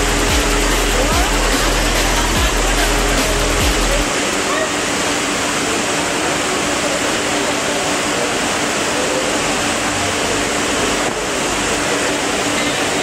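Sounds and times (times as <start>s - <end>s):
crowd din in station hall: 0.0s - 13.0s.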